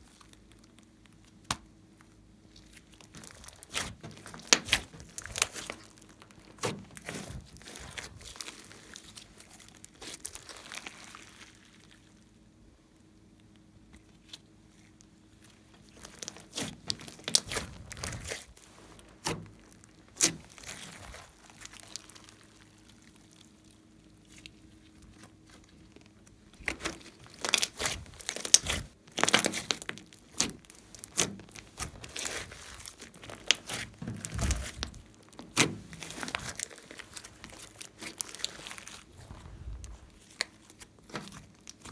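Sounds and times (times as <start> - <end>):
slime crackling and popping: 0.0 - 12.4, 13.1 - 41.9.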